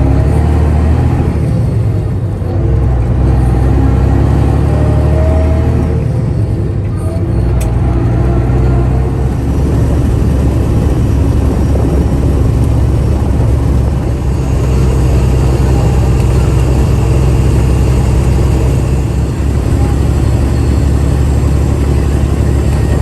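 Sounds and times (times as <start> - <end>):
road noise: 0.0 - 23.0
vehicle engine rumble: 0.0 - 23.0.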